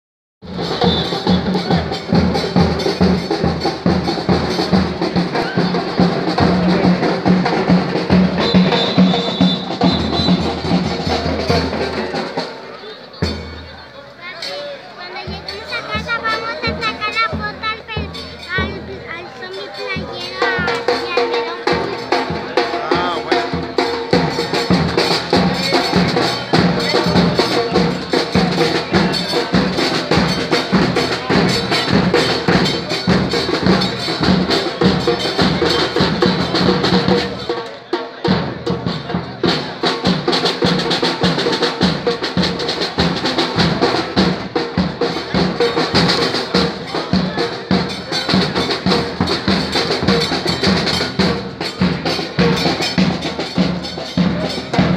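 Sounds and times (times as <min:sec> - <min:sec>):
bass and snare drums pounding: 0:00.4 - 0:13.9, 0:20.0 - 0:54.9.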